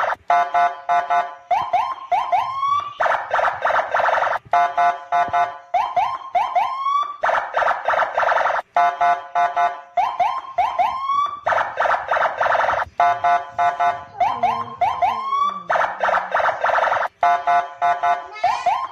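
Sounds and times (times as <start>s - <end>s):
electronic siren whooping: 0.0s - 18.9s.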